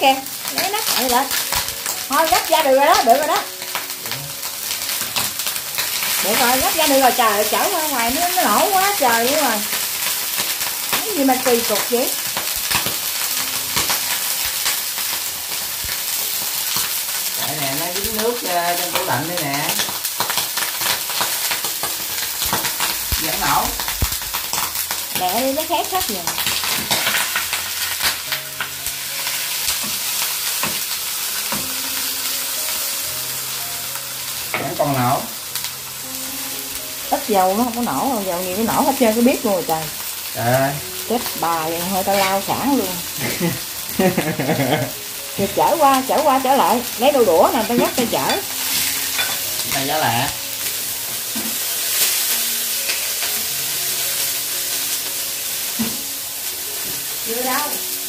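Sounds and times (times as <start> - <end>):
steak sizzling in oil: 0.0 - 58.0
oil spattering crackles: 0.3 - 33.2, 34.0 - 56.1.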